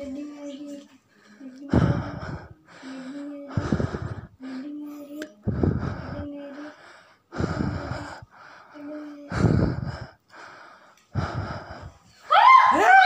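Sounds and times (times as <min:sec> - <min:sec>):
person breathing heavily: 0:01.0 - 0:12.3.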